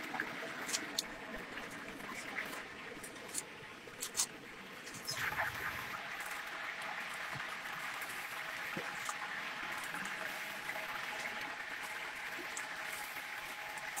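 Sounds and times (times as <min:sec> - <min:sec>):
oil sizzling and bubbling: 0:00.0 - 0:14.0.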